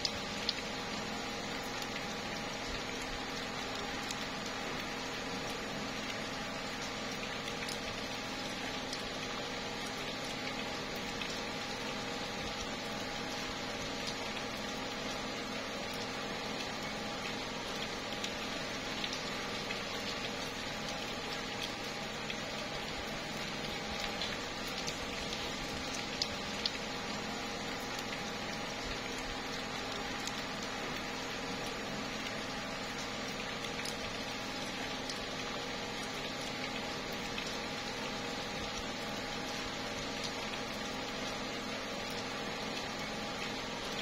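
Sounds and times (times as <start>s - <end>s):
rain falling on leaves: 0.0s - 44.0s.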